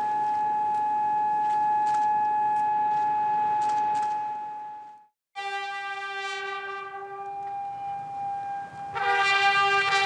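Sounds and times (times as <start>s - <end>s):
siren steady tone: 0.0s - 10.0s.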